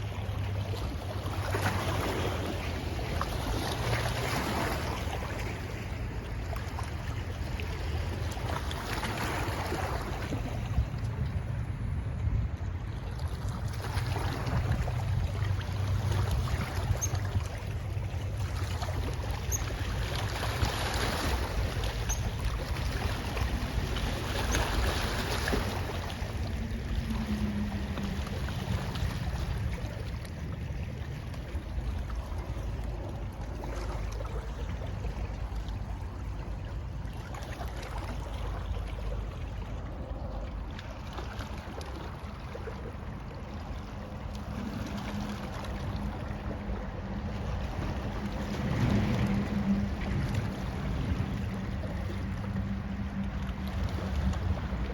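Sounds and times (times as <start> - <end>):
boat engine low rumble: 0.0 - 54.9
water rushing: 0.0 - 54.9
wind: 0.0 - 54.9.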